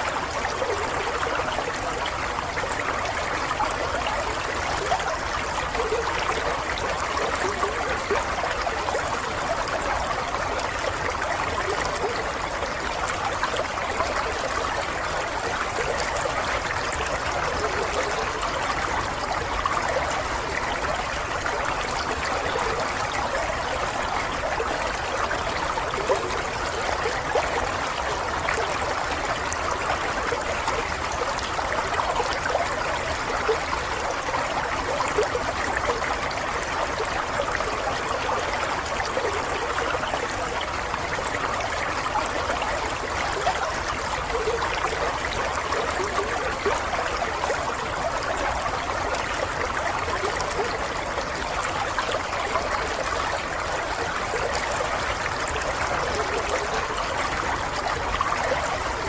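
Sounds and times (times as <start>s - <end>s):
stream babbling over stones: 0.0s - 59.0s.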